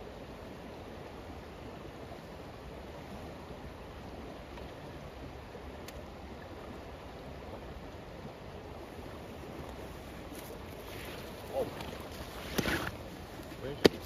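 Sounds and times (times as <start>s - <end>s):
flowing creek water: 0.0s - 14.0s.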